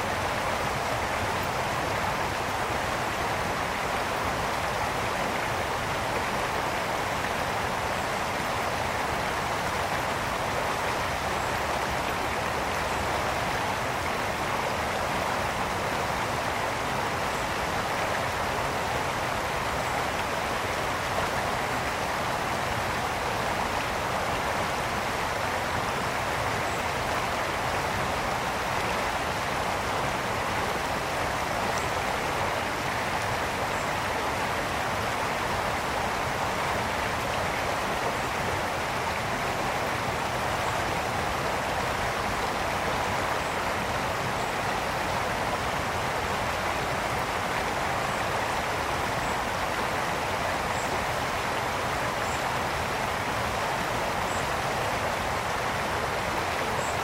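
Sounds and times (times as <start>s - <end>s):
brook water flowing and splashing: 0.0s - 57.0s.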